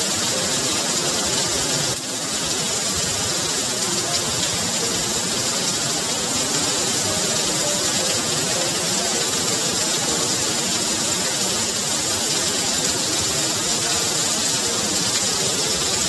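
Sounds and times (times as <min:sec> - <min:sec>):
heavy rain splashing into water: 0:00.0 - 0:16.0.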